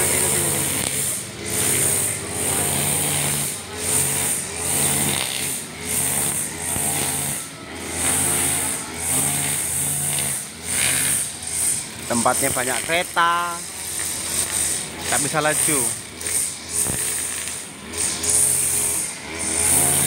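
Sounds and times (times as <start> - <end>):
brush cutter engine running: 0.0 - 20.0
trimmer line cutting grass: 0.0 - 20.0.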